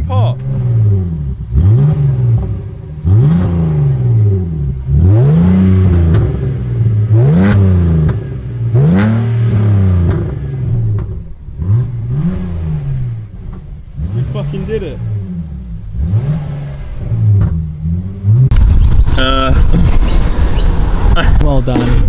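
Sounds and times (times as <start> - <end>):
car engine revving: 0.0 - 22.0
exhaust cracks: 0.0 - 22.0.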